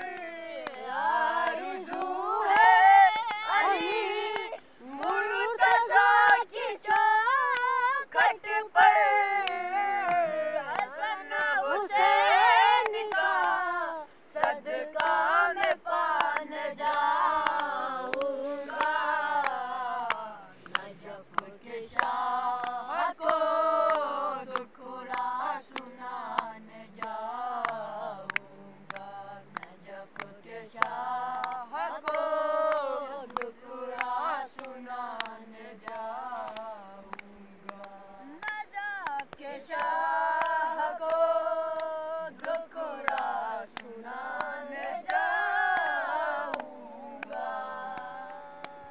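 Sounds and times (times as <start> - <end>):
boys singing together: 0.0 - 48.9
hand claps: 0.0 - 48.9.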